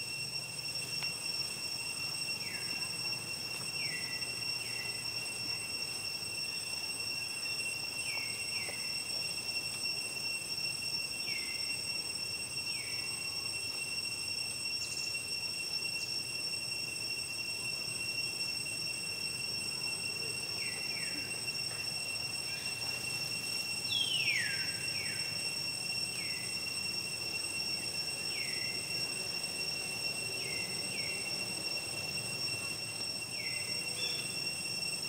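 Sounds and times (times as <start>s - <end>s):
high insect drone: 0.0s - 35.0s.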